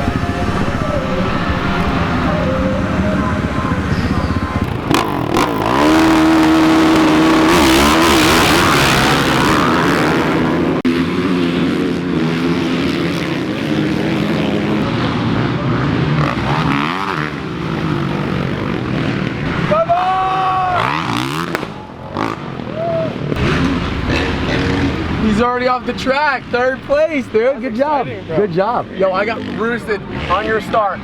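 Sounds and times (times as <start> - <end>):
pit bike engines revving: 0.0 - 31.0.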